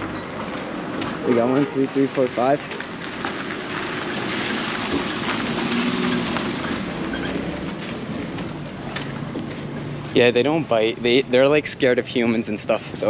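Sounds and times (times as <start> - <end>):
outdoor street noise: 0.0 - 13.0.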